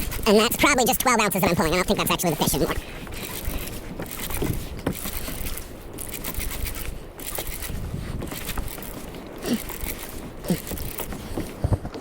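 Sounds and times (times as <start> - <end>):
wind on microphone: 0.0 - 0.9, 1.5 - 12.0
water lapping against kayak: 1.4 - 12.0.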